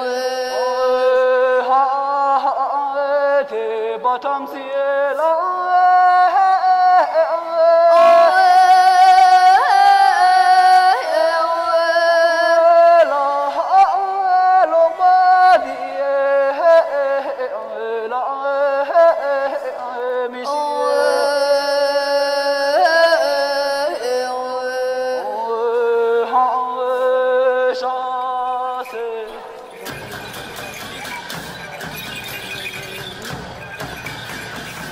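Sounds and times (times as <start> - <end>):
high solo voice singing opera: 0.0 - 29.6.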